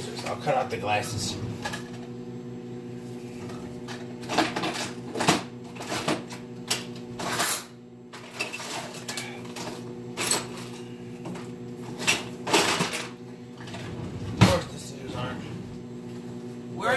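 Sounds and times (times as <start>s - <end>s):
microwave oven humming: 0.0s - 16.9s.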